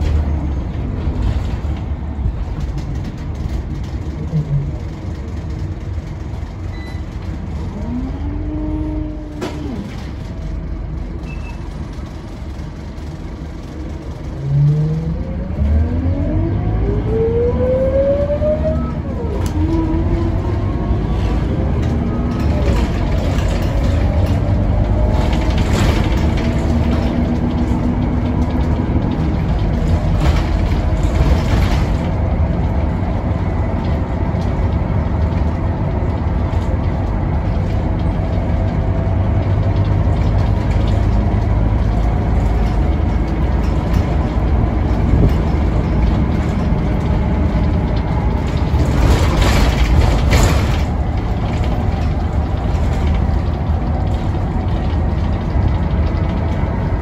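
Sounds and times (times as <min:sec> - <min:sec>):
bus diesel engine running: 0:00.0 - 0:57.0
road noise: 0:00.0 - 0:57.0.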